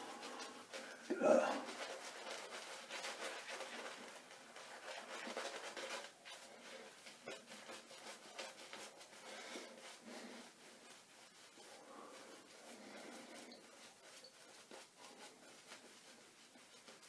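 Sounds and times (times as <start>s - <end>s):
shaving brush swishing lather: 0.0s - 17.0s.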